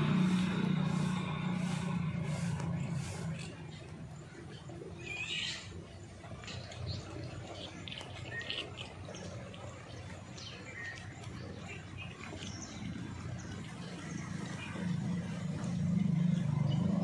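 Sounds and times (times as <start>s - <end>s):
low steady rumble: 0.0s - 17.0s
small birds chirping: 0.0s - 17.0s.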